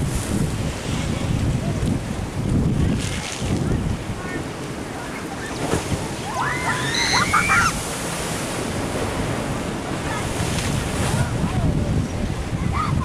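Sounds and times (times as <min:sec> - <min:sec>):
waves washing against a seawall: 0:00.0 - 0:13.0
wind buffeting the microphone: 0:00.0 - 0:13.0.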